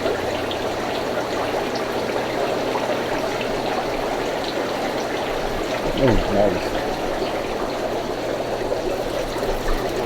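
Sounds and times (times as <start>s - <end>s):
aquarium water trickling: 0.0s - 10.0s.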